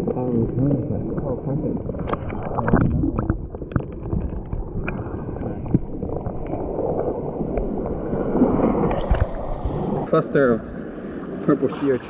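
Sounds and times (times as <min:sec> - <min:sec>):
muffled sea water sloshing: 0:00.0 - 0:12.0.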